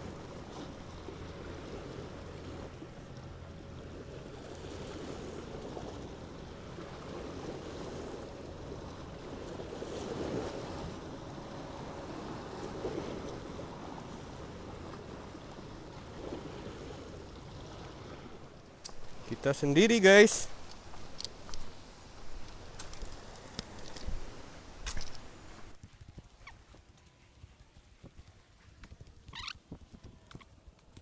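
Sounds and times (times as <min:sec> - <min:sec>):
sea waves washing on shore: 0:00.0 - 0:25.8.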